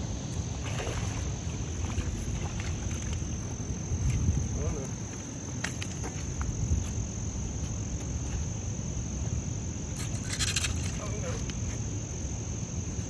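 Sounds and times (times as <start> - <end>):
insects trilling: 0.0 - 13.0
low rumble of wind or water: 0.0 - 13.0.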